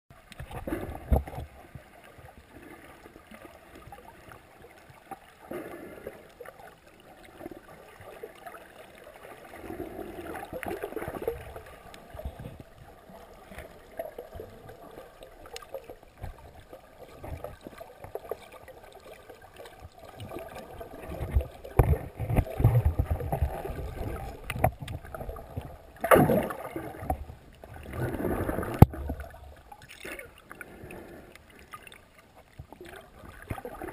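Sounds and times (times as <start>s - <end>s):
underwater water swishing and gurgling: 0.1s - 33.9s.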